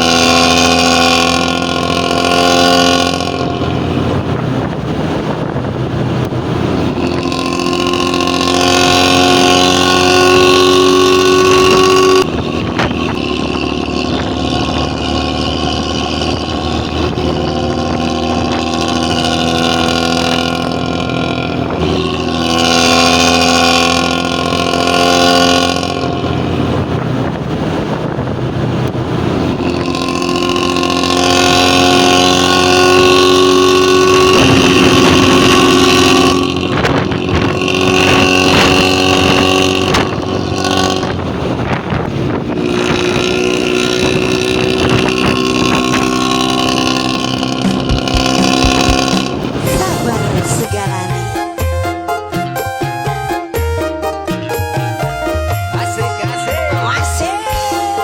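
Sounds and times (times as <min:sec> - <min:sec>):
bus diesel engine droning: 0:00.0 - 0:53.6.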